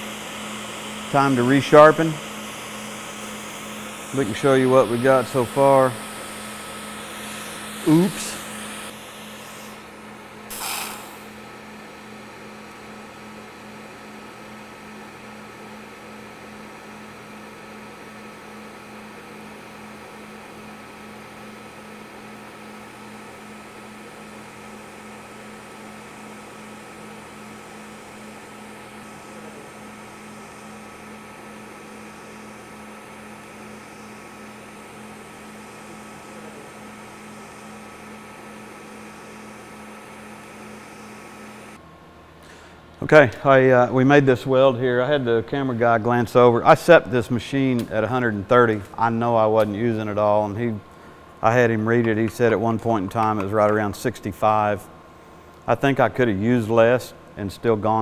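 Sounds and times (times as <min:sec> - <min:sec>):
fume extractor running: 0:00.0 - 0:58.0
welding arc hum and hiss: 0:00.0 - 0:58.0.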